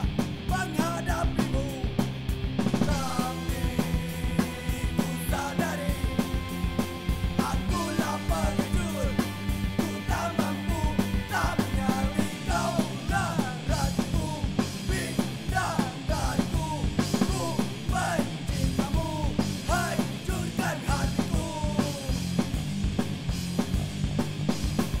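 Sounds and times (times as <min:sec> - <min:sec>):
punk rock song: 0:00.0 - 0:25.0.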